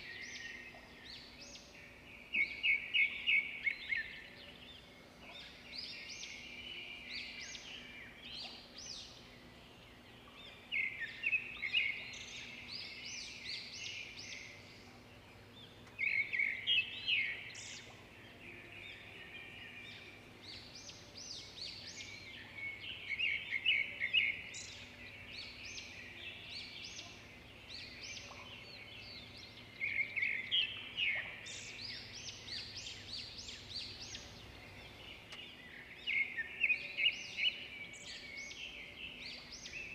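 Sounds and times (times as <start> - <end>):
birds chirping and twittering: 0.0 - 39.9
faint steady hum: 0.0 - 39.9.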